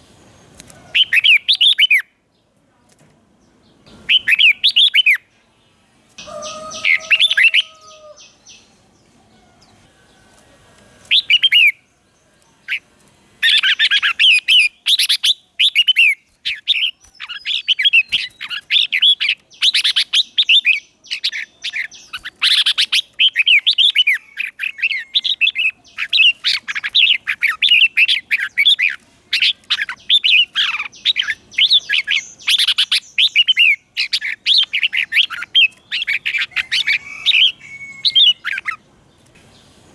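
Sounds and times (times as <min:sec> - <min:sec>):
bird song warbling: 0:00.0 - 0:02.2, 0:03.6 - 0:05.4, 0:06.2 - 0:10.2, 0:11.0 - 0:39.9.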